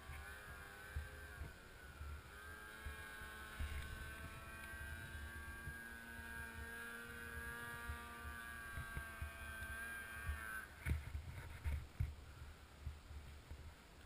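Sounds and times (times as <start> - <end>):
snowmobile engine running: 0.0 - 13.6.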